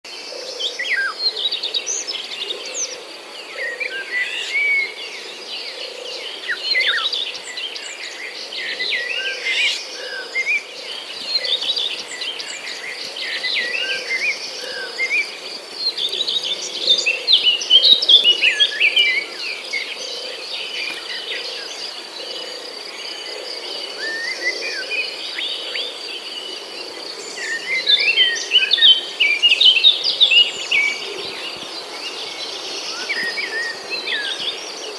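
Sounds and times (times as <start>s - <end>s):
birds chirping and calling: 0.3s - 34.9s.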